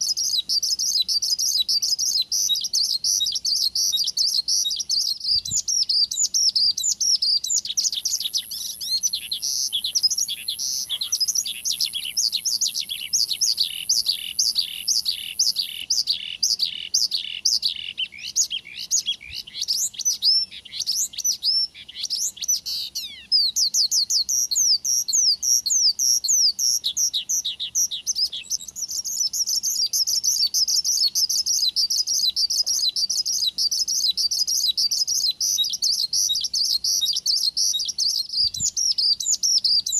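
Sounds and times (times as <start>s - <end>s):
high buzzy bird trill: 0.0s - 37.0s
bird singing whistled notes: 0.0s - 39.9s.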